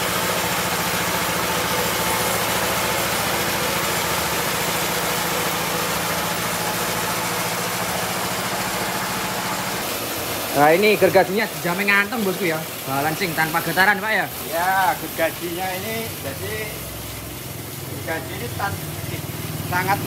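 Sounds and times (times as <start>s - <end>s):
band sawmill running: 0.0s - 20.0s.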